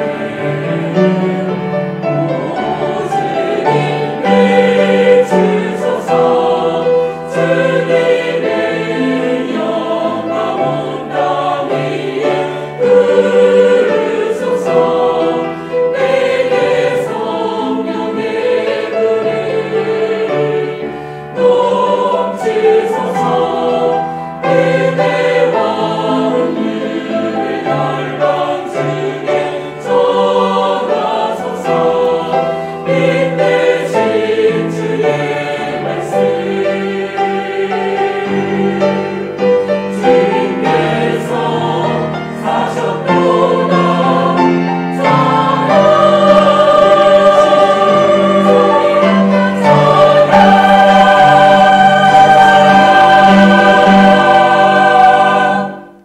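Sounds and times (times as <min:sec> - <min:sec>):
cello: 0:00.0 - 0:56.0
choir singing a hymn: 0:00.0 - 0:56.0
piano: 0:00.0 - 0:56.0
violin: 0:00.0 - 0:56.0.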